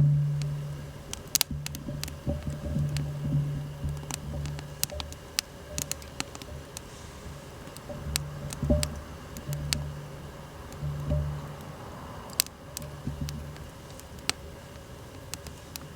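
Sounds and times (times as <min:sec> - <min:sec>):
wood fire crackling and popping: 0:00.0 - 0:15.9.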